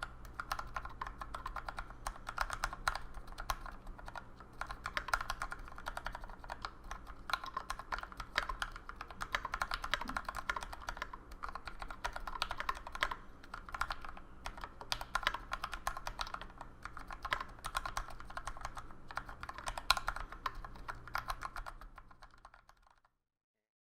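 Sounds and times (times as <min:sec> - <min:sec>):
fast typing on mechanical keyboard: 0:00.0 - 0:23.1.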